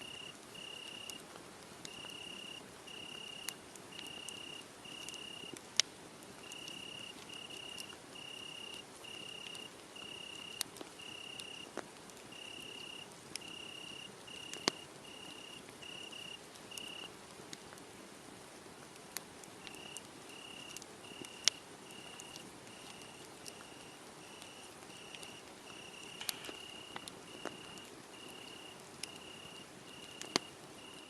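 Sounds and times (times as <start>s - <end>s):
crickets chirping: 0.0s - 1.2s, 1.9s - 5.6s, 6.4s - 11.7s, 12.3s - 17.1s, 19.7s - 31.0s
wood fire crackling: 0.0s - 31.0s.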